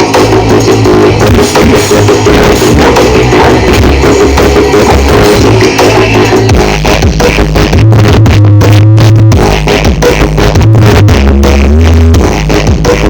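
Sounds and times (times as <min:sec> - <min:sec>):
heavy pulsing bass: 0:00.0 - 0:13.0
loud rock music over sound system: 0:00.0 - 0:13.0.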